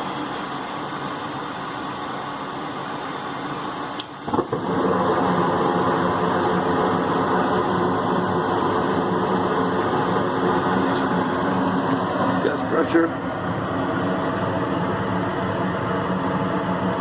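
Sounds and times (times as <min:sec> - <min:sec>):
gas furnace humming: 0:00.0 - 0:17.0.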